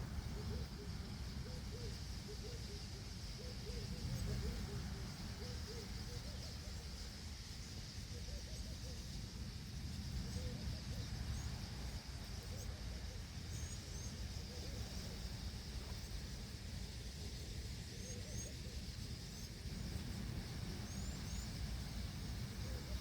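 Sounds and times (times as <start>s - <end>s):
faint bird chirps: 0.0s - 23.0s
steady high hiss: 0.0s - 23.0s.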